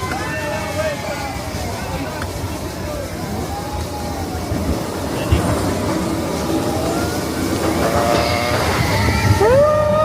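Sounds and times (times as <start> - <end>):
roller coaster rumbling on track: 0.0 - 10.0.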